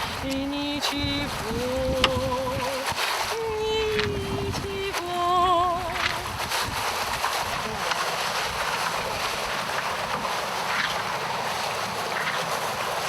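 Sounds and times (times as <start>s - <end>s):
water rushing: 0.0s - 13.0s
wind on microphone: 0.0s - 13.0s.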